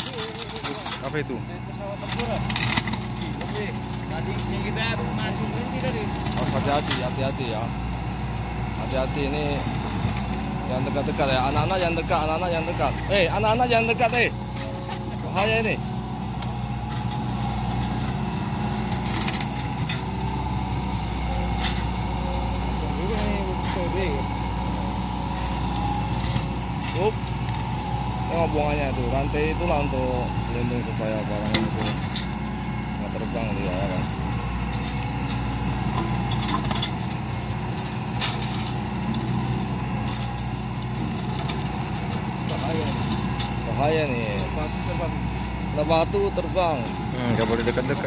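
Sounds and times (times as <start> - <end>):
excavator diesel engine under load: 0.0 - 48.0
mulcher head grinding wood: 0.0 - 48.0
steady whine: 0.0 - 48.0.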